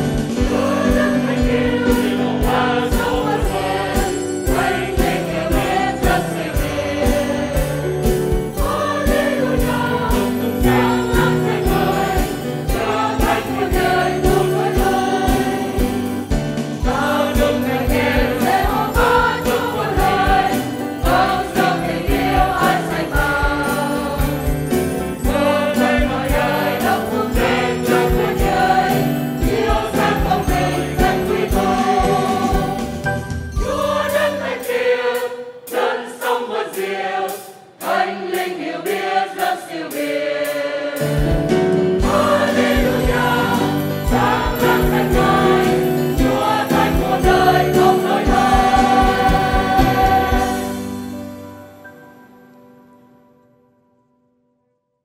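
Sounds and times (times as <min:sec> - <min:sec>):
mixed choir singing a hymn: 0:00.0 - 0:51.4
piano: 0:00.0 - 0:54.8.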